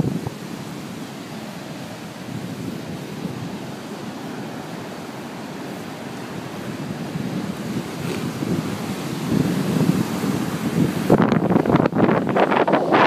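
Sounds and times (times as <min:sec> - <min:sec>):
waves surging and breaking: 0:00.0 - 0:13.0
wind rumbling on microphone: 0:00.0 - 0:13.0.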